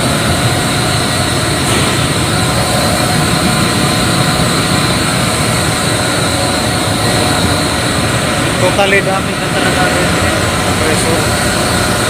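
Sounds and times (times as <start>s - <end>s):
air compressor drone: 0.0s - 12.0s
faint steady whine: 0.0s - 12.0s.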